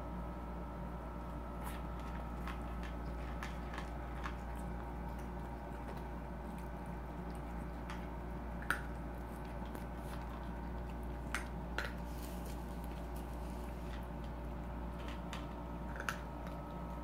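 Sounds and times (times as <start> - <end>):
steady low hum: 0.0 - 17.0
cats chewing: 1.0 - 17.0.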